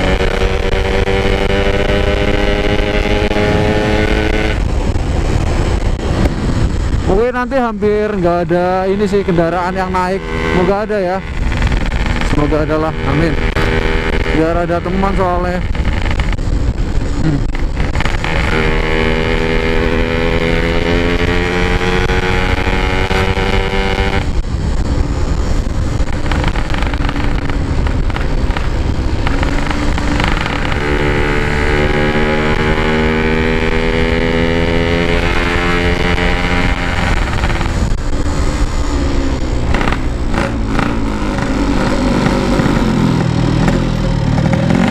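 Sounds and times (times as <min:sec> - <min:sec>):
two-stroke motorcycle engine accelerating: 0:00.0 - 0:44.9
wind buffeting microphone: 0:00.0 - 0:44.9.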